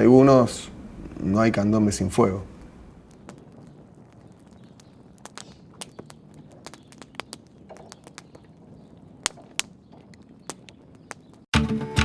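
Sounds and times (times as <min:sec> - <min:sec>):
wood fire crackling and popping: 0:00.0 - 0:11.5.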